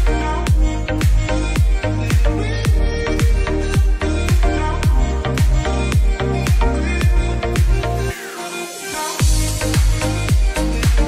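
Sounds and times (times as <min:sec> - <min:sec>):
deep kick drum: 0:00.0 - 0:07.8, 0:09.2 - 0:11.0.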